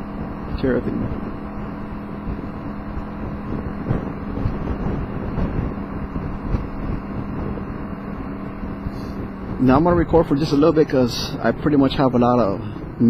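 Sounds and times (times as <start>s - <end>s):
scooter engine cruising: 0.0s - 13.0s
wind buffeting microphone: 0.0s - 13.0s.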